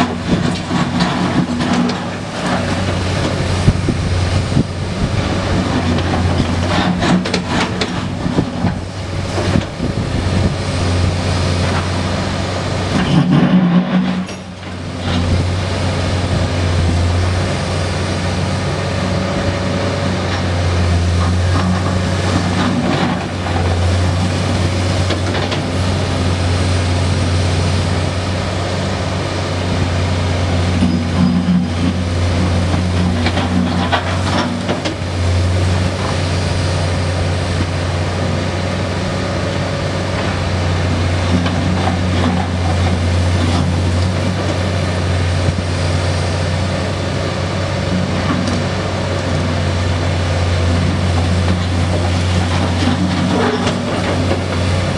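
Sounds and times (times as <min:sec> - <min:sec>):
excavator diesel engine humming: 0:00.0 - 0:54.9.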